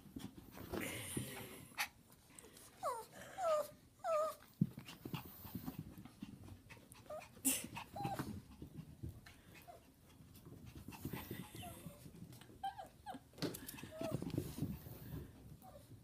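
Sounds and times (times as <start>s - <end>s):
dogs scuffling and thumping: 0.0s - 1.7s, 4.3s - 16.0s.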